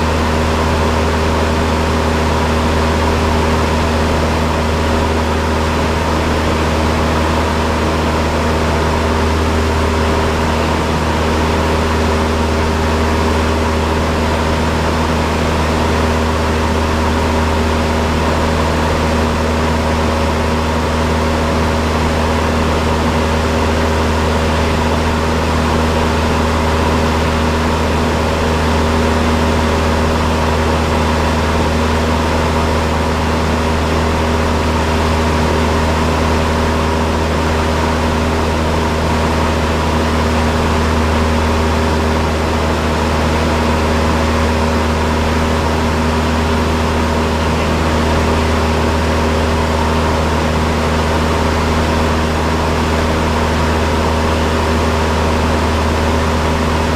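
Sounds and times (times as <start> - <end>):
propeller plane engine drone: 0.0 - 56.9.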